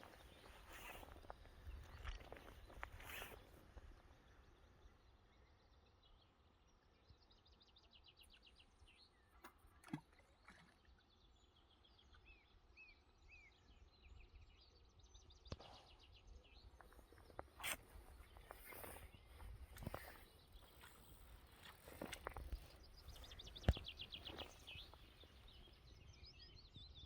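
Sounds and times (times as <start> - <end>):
small birds singing: 0.0 - 27.0.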